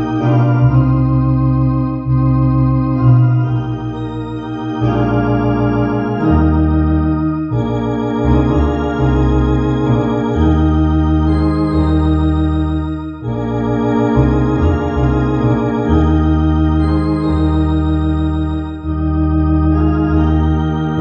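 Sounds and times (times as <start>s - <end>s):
electronic organ playing a hymn: 0.0s - 21.0s.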